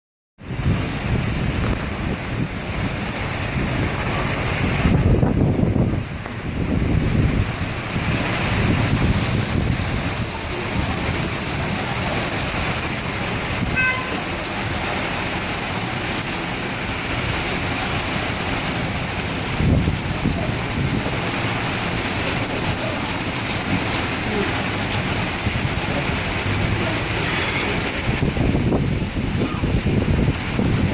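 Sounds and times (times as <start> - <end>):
heavy rain pouring: 0.4 - 30.9.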